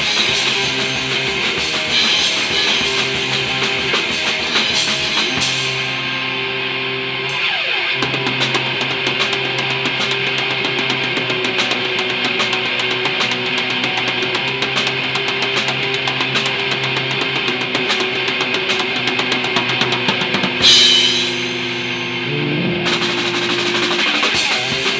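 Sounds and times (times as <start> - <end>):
drum kit: 0.0 - 6.7, 7.3 - 24.9
distorted electric guitar: 0.0 - 24.9.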